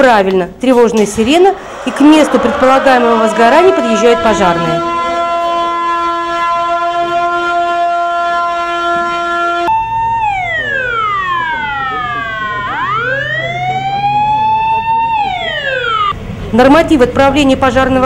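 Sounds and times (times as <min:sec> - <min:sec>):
steady alarm siren tone: 0:01.0 - 0:16.2
fire engine wailing siren: 0:01.1 - 0:16.2.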